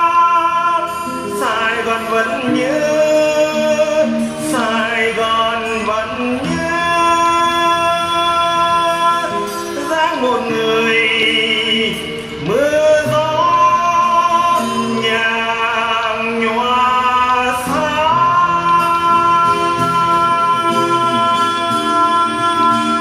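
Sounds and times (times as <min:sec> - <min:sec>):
acoustic guitar: 0:00.0 - 0:23.0
man singing a slow ballad: 0:00.0 - 0:23.0.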